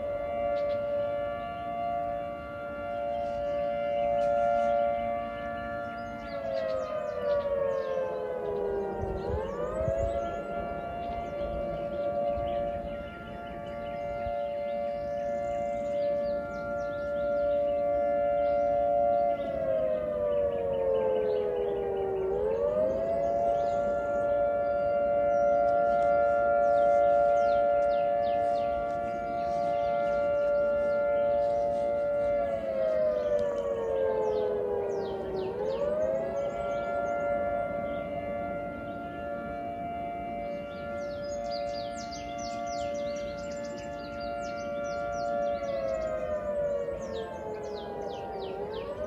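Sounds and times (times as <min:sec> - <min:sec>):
two-tone warning siren: 0:00.0 - 0:49.0.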